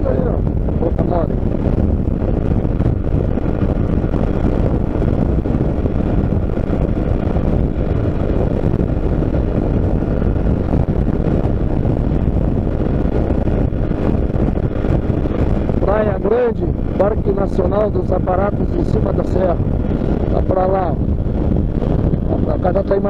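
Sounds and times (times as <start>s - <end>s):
motorcycle engine running: 0.0s - 23.0s
wind rushing on microphone: 0.0s - 23.0s.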